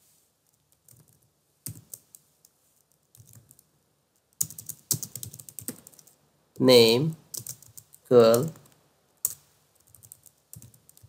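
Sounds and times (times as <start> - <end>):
keyboard typing: 0.5 - 2.2, 2.8 - 6.2, 7.1 - 11.0.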